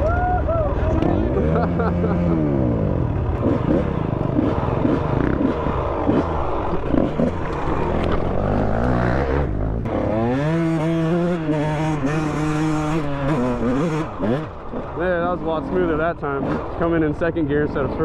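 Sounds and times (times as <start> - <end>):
dirt bike engine revving: 0.7 - 18.0.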